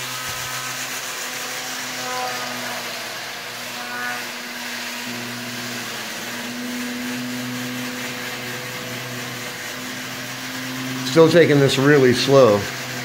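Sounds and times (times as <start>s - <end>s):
electric motor whirring hum: 0.0s - 13.0s.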